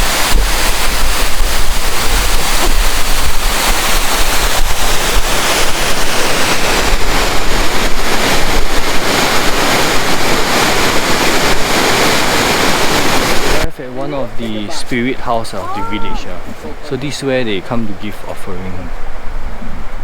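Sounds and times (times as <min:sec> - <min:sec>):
river water rushing: 0:00.0 - 0:20.0
wind buffeting microphone: 0:00.0 - 0:20.0.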